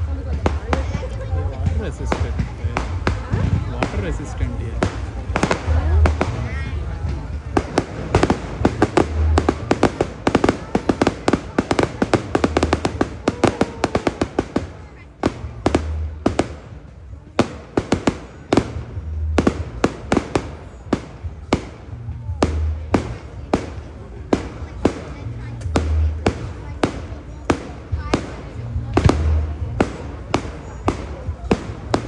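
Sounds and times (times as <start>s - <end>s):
music with low bass beat: 0.0s - 13.3s, 18.0s - 32.0s
fireworks bangs and crackles: 0.0s - 32.0s.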